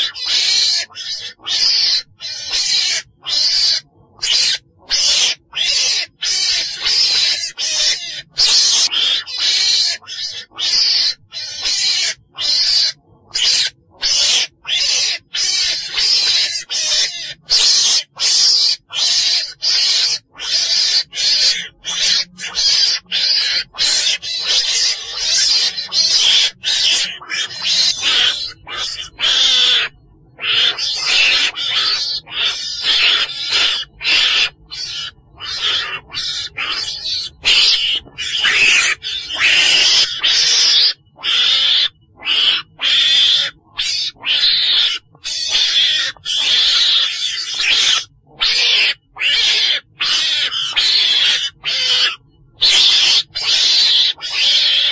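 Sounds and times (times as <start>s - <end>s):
weasel rasping calls: 0.0s - 54.9s.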